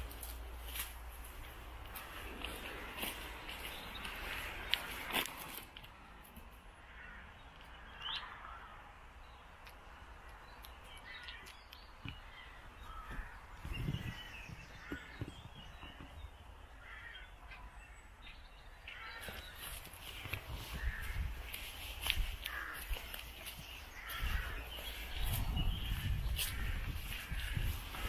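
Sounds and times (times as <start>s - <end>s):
birds calling faintly: 0.0s - 28.0s.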